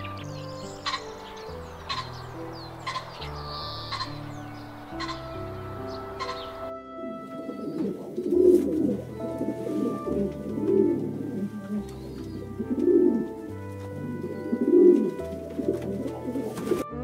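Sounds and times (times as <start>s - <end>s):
pigeon cooing: 0.0s - 4.3s, 4.9s - 16.9s
background music: 0.0s - 17.0s.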